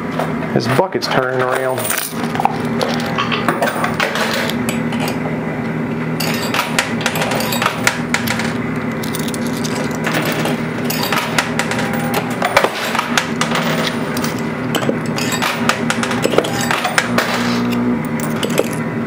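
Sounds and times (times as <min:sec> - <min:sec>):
low machine hum: 0:00.0 - 0:19.0
coins clinking and clattering: 0:01.6 - 0:05.2, 0:06.2 - 0:18.9.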